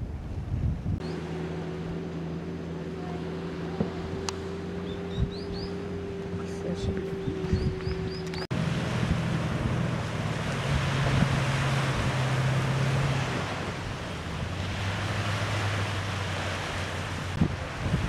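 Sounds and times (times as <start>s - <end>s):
wind buffeting microphone: 0.0s - 1.2s, 3.6s - 18.0s
surf: 0.0s - 18.0s
vehicle engines droning: 1.0s - 18.0s.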